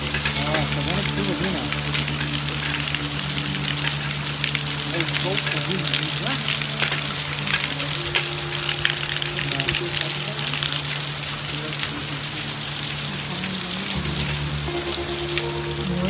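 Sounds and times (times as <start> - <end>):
heavy rain on a tent: 0.0 - 16.0.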